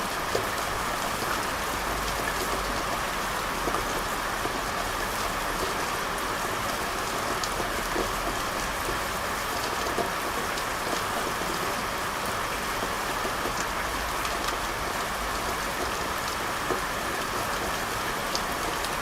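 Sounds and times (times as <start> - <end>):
rain on hard surfaces: 0.0 - 19.0.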